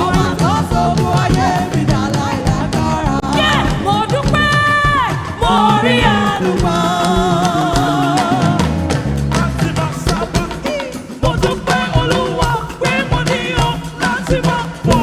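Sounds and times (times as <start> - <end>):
gospel band playing: 0.0 - 15.0
person singing with vibrato: 0.0 - 15.0.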